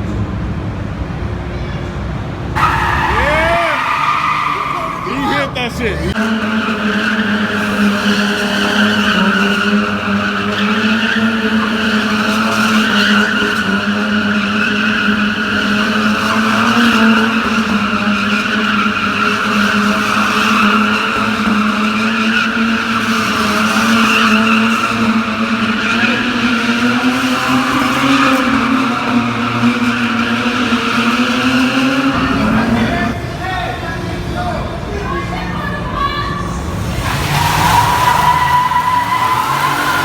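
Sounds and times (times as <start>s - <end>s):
tyres squealing: 2.5s - 34.0s, 35.0s - 40.0s
car engine at high revs: 2.6s - 33.2s, 36.6s - 40.0s.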